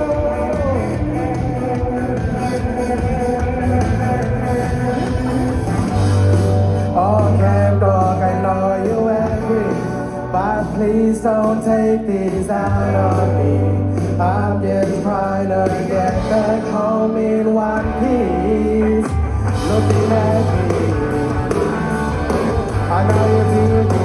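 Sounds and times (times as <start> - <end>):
person singing: 0.0 - 5.9, 6.6 - 24.0
live rock band playing: 0.0 - 24.0.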